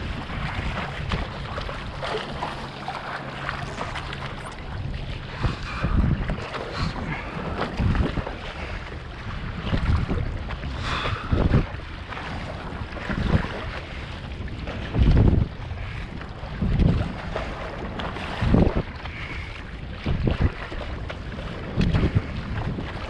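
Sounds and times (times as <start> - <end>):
choppy sea splashing: 0.0 - 23.0
strong wind buffeting microphone: 0.0 - 23.0.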